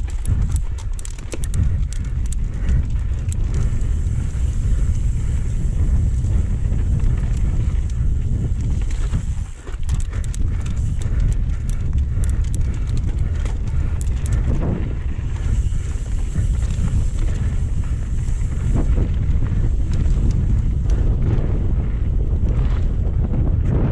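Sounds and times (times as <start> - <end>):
bike rattling clicks and knocks: 0.0 - 23.8
wind rushing over microphone: 0.0 - 23.9.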